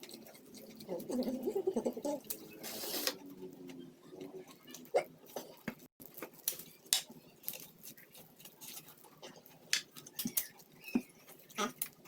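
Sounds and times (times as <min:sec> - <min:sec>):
chewing corn on the cob: 0:00.0 - 0:12.0.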